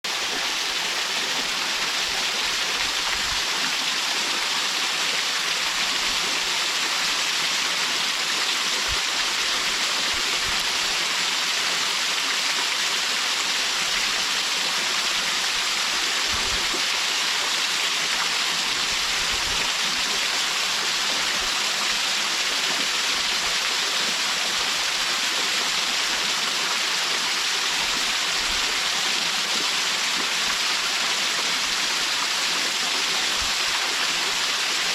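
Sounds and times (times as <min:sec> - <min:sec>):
waterfall splashing into pool: 0:00.1 - 0:34.9.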